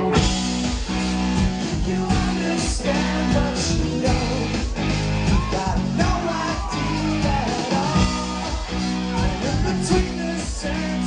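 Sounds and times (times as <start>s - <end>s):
bass line: 0.0s - 11.0s
electric guitar: 0.0s - 11.0s.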